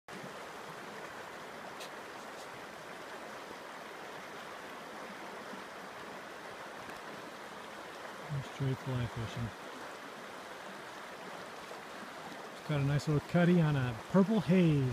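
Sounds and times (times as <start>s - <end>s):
creek running over stones: 0.1s - 14.9s.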